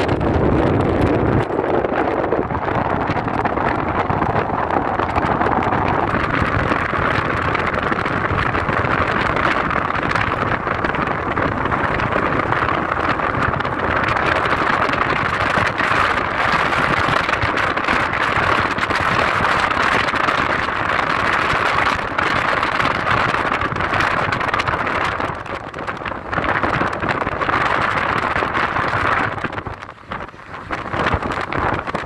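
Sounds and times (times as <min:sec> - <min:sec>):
car engine and tyre noise: 0:00.0 - 0:32.0.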